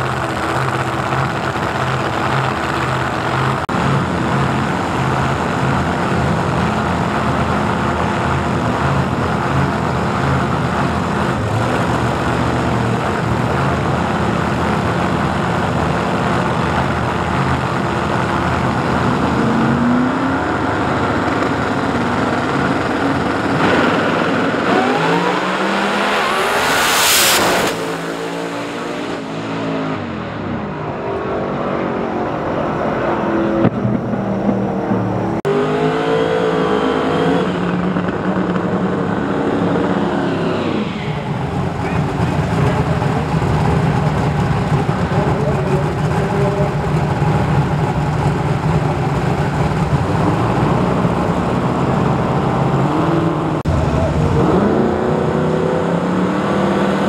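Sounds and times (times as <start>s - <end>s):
race car engines idling and blipping: 0.0s - 57.0s
race cars accelerating past: 0.0s - 57.0s.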